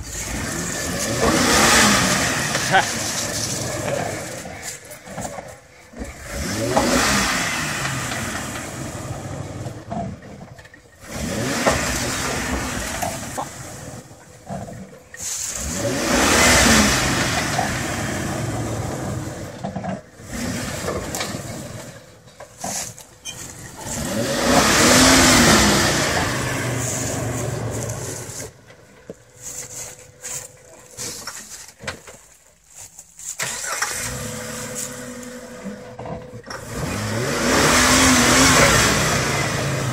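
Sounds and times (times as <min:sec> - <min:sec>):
engine revving in bursts: 0:00.0 - 0:10.2, 0:11.0 - 0:14.8, 0:15.4 - 0:22.1, 0:23.5 - 0:28.6, 0:33.4 - 0:39.9.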